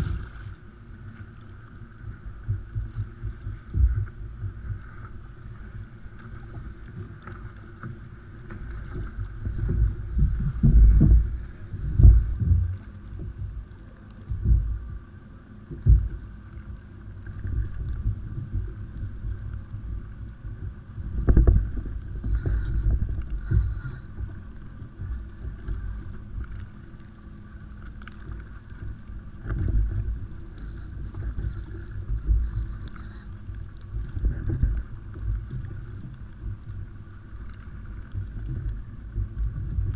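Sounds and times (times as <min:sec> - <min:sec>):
wind and water buffeting microphone: 0:00.0 - 0:39.9.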